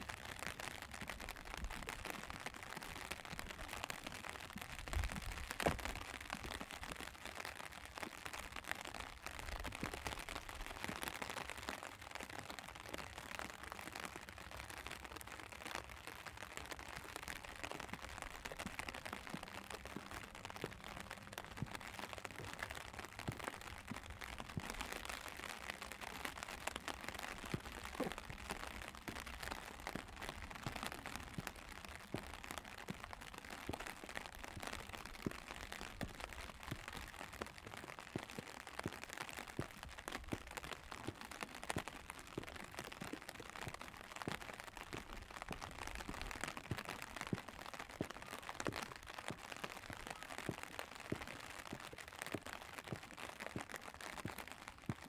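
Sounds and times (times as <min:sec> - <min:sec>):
rain on an umbrella: 0:00.0 - 0:55.0.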